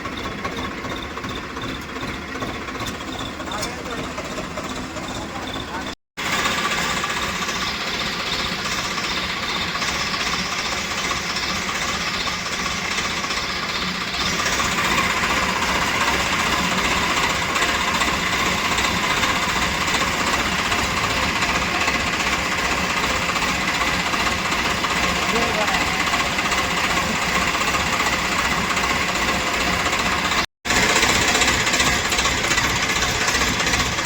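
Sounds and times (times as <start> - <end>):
diesel engine knocking: 0.0 - 34.0.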